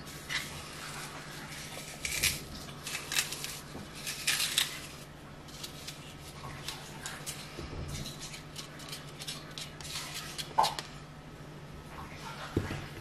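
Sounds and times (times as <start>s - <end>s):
knife paring apple: 0.0s - 10.9s.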